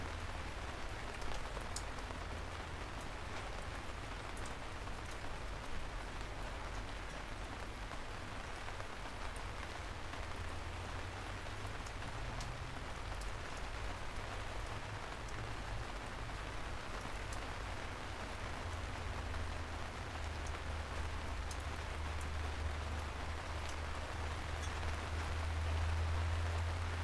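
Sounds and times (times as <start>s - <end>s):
rain pattering on a surface: 0.0s - 27.0s.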